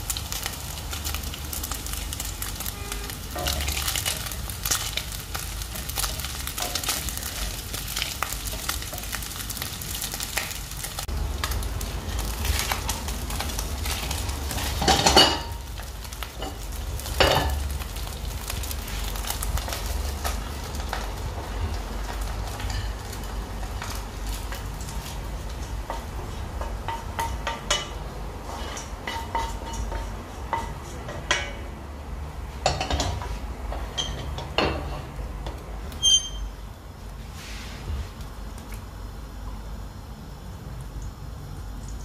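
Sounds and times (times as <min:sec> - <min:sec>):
food sizzling in a pot: 0:00.0 - 0:31.6, 0:35.8 - 0:42.0
steady low hum: 0:00.0 - 0:42.0.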